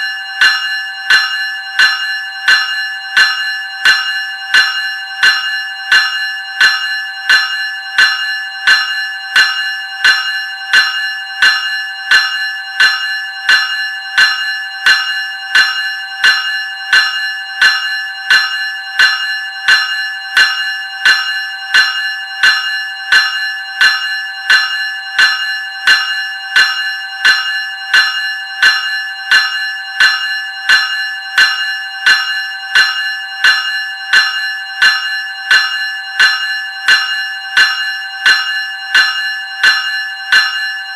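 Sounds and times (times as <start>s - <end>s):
electric bell ringing: 0.0s - 40.9s.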